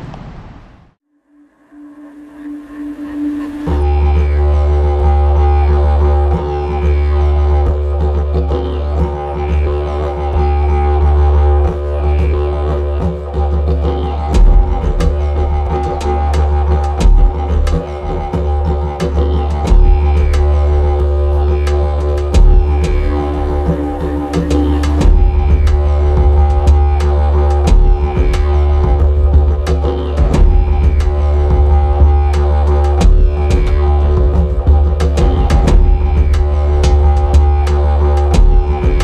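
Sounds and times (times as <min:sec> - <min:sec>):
deep steady drone music: 0:01.1 - 0:39.0.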